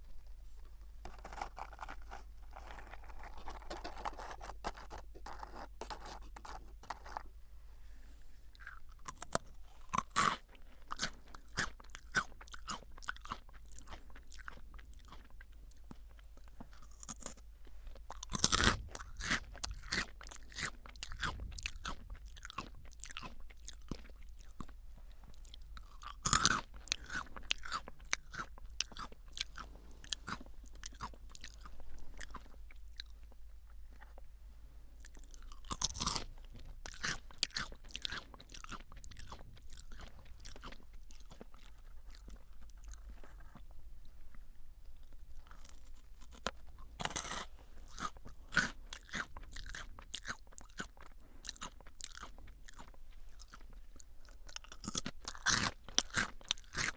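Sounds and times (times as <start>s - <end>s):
crunchy chewing of potato sticks: 0.0s - 7.4s, 8.3s - 56.9s.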